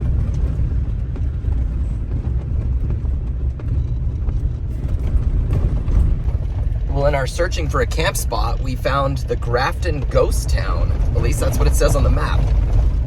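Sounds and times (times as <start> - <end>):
faint clicks and rattles: 0.0 - 13.0
vehicle driving rumble: 0.0 - 13.0.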